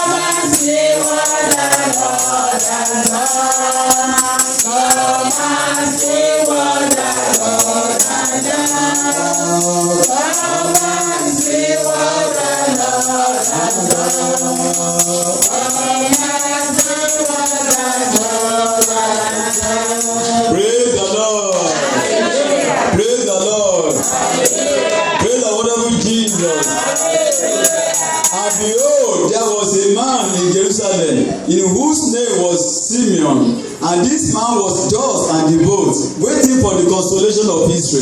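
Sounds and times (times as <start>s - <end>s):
choir singing: 0.0s - 30.7s
tambourine shaken: 0.0s - 30.8s, 36.1s - 37.1s.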